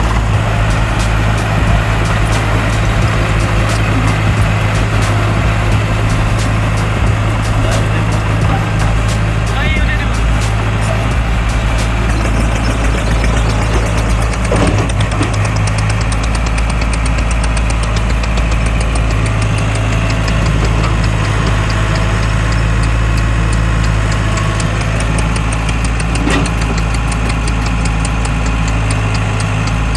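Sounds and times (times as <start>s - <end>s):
fast even ticking: 0.0s - 29.9s
tractor engine running: 0.0s - 29.9s.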